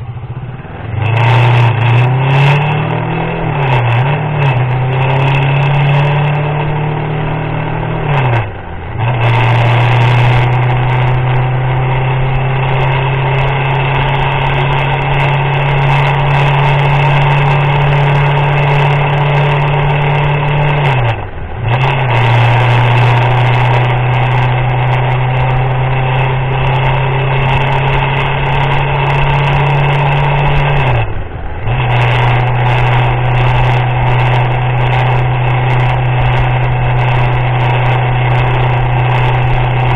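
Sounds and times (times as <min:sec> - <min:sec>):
motorcycle engine cruising: 0:00.0 - 0:39.9
rain noise: 0:00.0 - 0:39.9.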